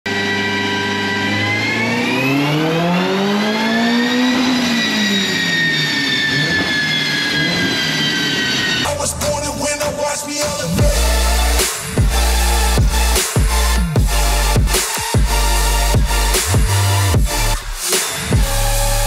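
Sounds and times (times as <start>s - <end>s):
car engine revving: 0.1s - 19.0s
high whine: 0.1s - 19.0s.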